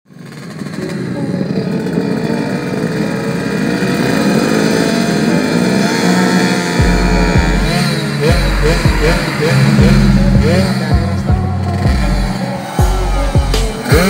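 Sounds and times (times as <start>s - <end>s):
motorcycle engines revving: 0.1s - 14.0s.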